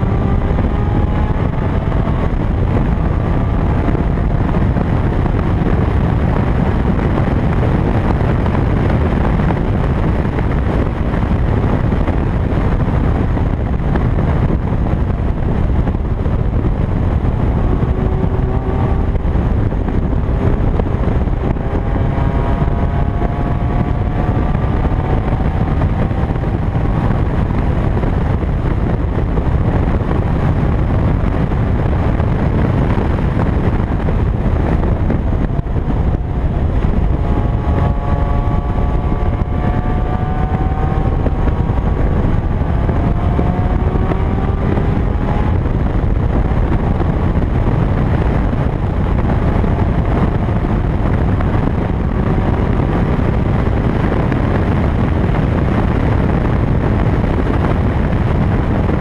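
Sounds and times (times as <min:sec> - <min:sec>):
car engine running hard: 0:00.0 - 0:59.0
wind rush on camera: 0:00.0 - 0:59.0.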